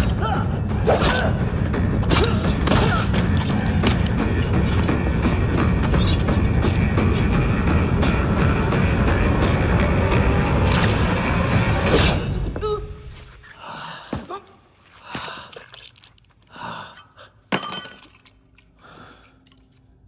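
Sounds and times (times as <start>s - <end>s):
dramatic film score: 0.0s - 17.4s.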